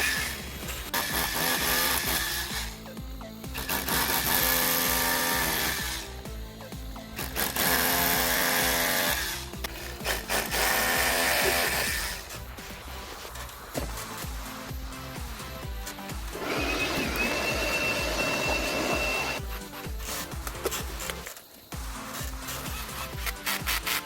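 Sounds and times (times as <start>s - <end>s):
power tool running: 0.0s - 12.4s, 15.4s - 24.0s
background music: 0.0s - 24.0s.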